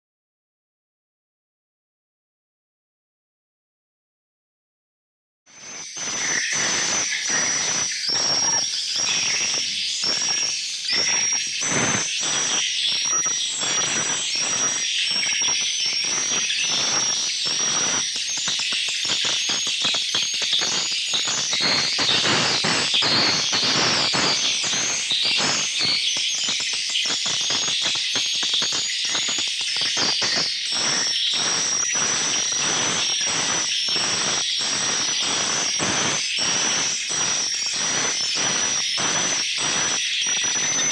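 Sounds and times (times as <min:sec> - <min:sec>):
swiftlets twittering: 0:05.6 - 0:40.9
sharp echolocation clicks: 0:05.8 - 0:40.9.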